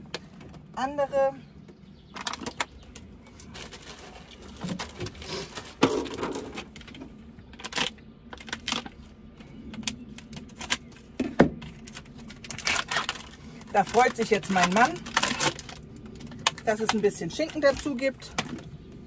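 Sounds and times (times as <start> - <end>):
crinkling plastic: 2.1 - 19.0.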